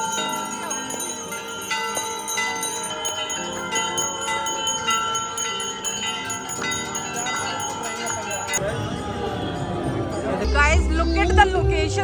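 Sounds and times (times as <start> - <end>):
metal bells clanging: 0.0 - 11.7.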